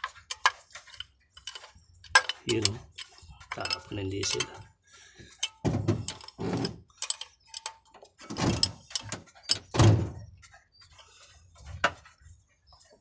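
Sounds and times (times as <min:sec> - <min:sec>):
metal knocks and thumps: 0:00.0 - 0:10.6.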